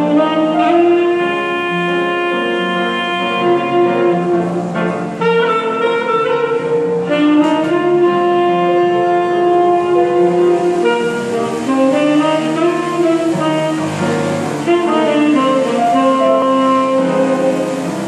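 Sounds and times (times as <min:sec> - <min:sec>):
grand piano accompaniment: 0:00.0 - 0:18.0
tenor saxophone melody: 0:00.0 - 0:18.0.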